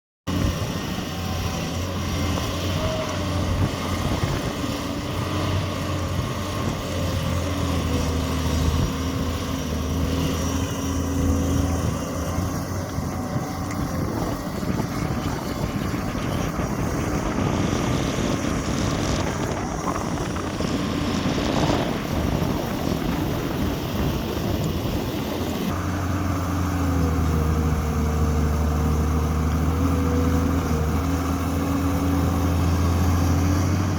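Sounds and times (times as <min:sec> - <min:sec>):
excavator diesel engine running: 0:00.3 - 0:33.9.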